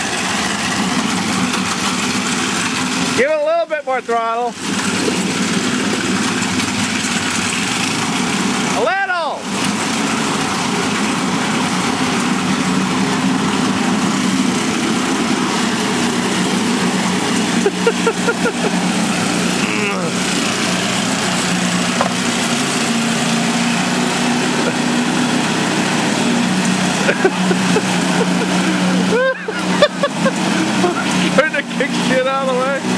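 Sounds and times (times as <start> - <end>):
lawn mower engine running: 0.0 - 32.9.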